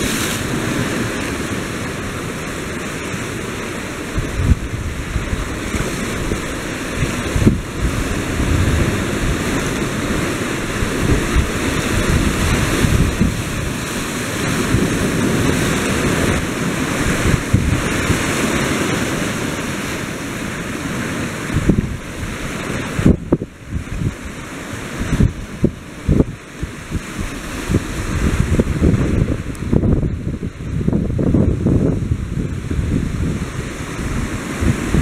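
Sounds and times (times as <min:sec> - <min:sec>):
surf breaking over rocks: 0:00.0 - 0:35.0
wind buffeting microphone: 0:04.0 - 0:20.2, 0:20.9 - 0:35.0.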